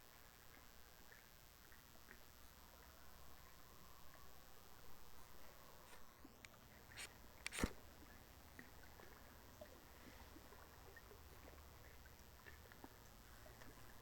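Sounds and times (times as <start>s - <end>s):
faint small ticks: 0.0s - 14.0s.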